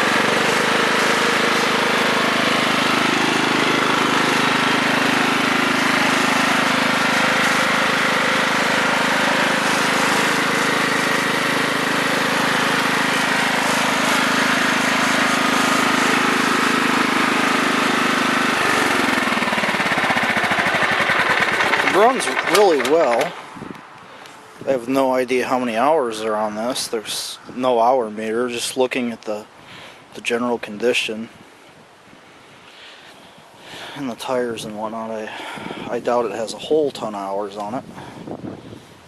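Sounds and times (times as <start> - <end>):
riding mower engine running: 0.0 - 39.0.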